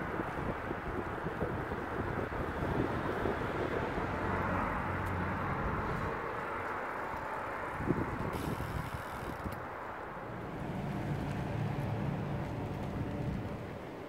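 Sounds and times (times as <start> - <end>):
bicycle rolling on tarmac: 0.0 - 14.0
rushing wind: 0.0 - 14.0.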